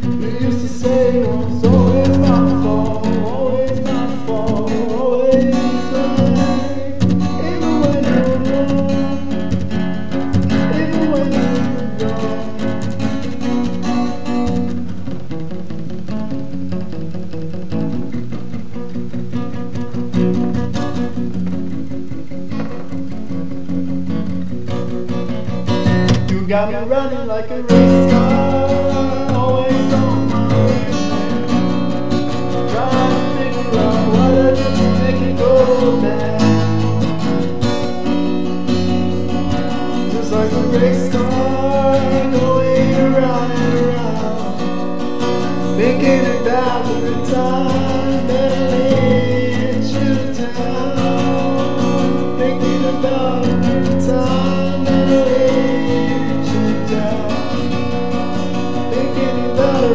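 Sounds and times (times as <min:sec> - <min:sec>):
strummed guitar: 0:00.0 - 0:59.9.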